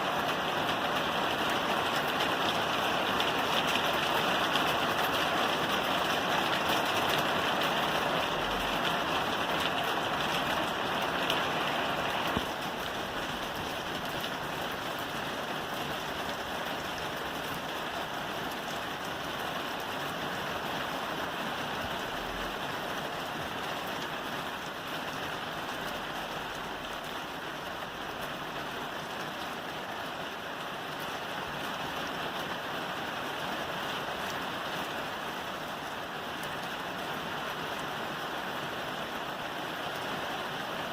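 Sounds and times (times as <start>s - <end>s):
rain falling on a roof: 0.0s - 40.9s.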